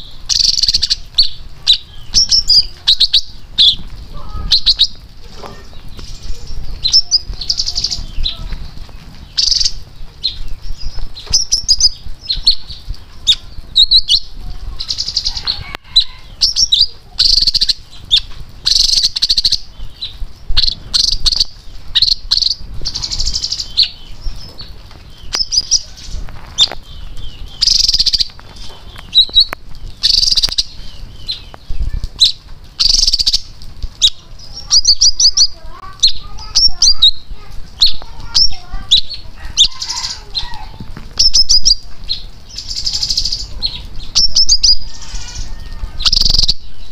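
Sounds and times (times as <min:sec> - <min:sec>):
bird singing warbling phrases: 0:00.0 - 0:46.9.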